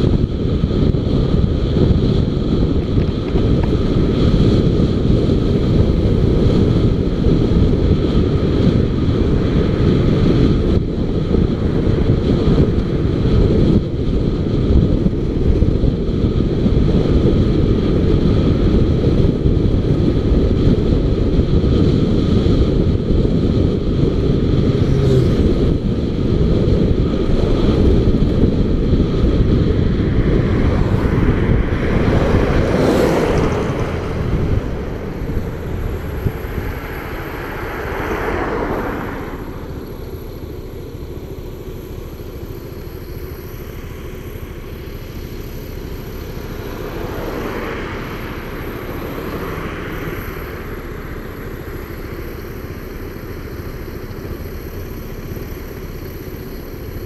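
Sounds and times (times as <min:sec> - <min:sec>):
motorcycle engine: 0:00.0 - 0:57.0
road noise: 0:00.0 - 0:57.0
wind rumble on microphone: 0:00.0 - 0:57.0.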